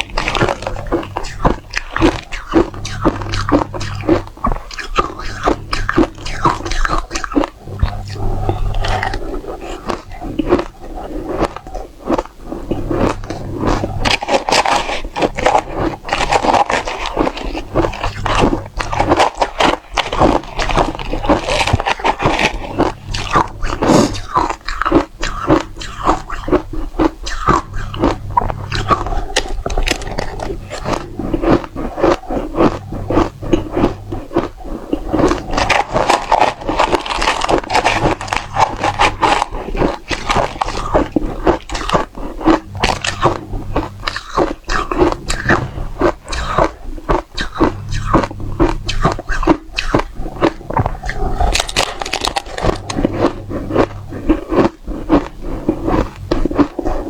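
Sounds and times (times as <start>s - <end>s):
biting and crunching ice: 0.0s - 57.0s.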